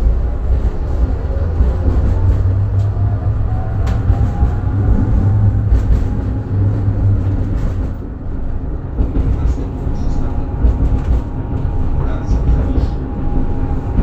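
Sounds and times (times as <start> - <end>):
tram rumbling: 0.0 - 14.0.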